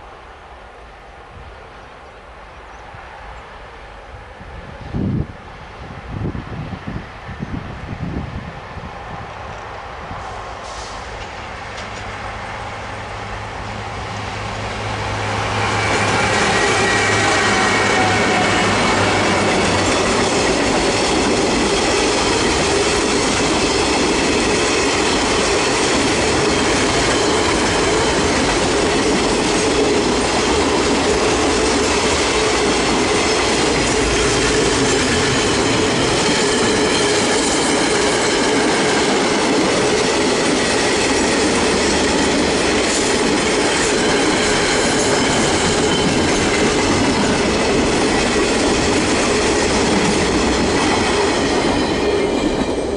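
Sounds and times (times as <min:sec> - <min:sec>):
train wheels rumbling on rails: 0:02.8 - 0:52.9.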